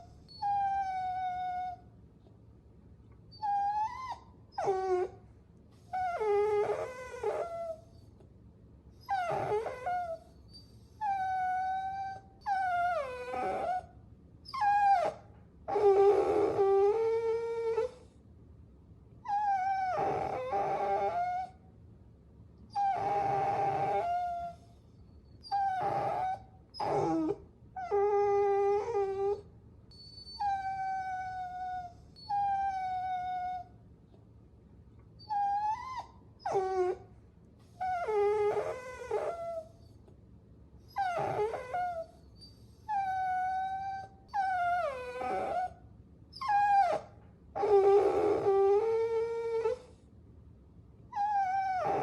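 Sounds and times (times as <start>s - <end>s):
puppy whining: 0.0s - 2.0s, 3.2s - 8.3s, 8.9s - 18.2s, 19.2s - 21.6s, 22.7s - 34.2s, 35.0s - 40.2s, 40.8s - 50.1s, 51.1s - 52.0s.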